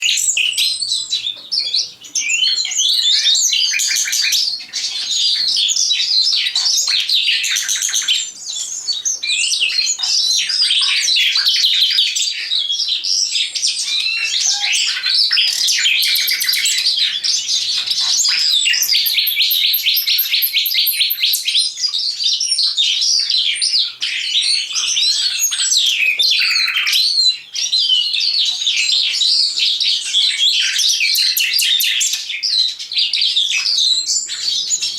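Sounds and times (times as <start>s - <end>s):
songbirds singing with trills: 0.0s - 34.9s.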